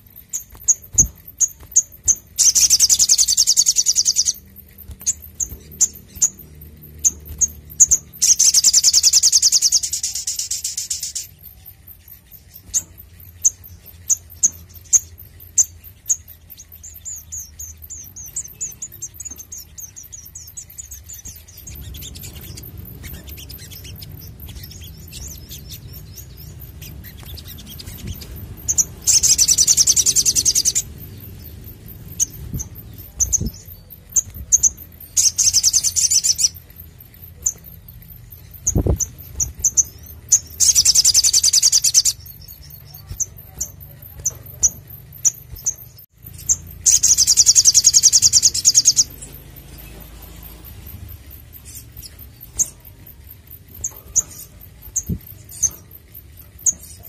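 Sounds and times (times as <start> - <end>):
bird chirping: 0.0 - 57.0
bird song bursts: 0.0 - 57.0.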